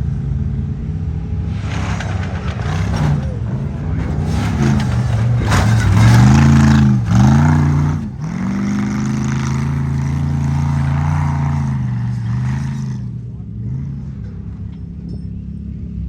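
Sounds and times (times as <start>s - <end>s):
truck engine revving: 0.0s - 15.1s.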